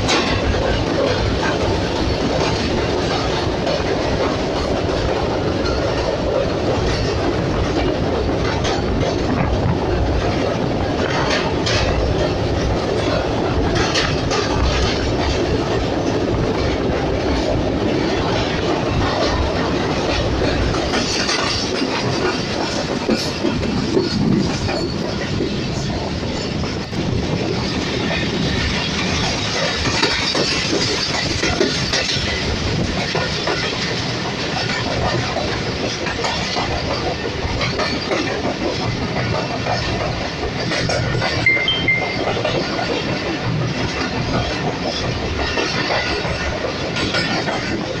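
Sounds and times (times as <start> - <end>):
passenger train rumbling: 0.0 - 48.0
wheels clicking over rail joints: 0.0 - 48.0.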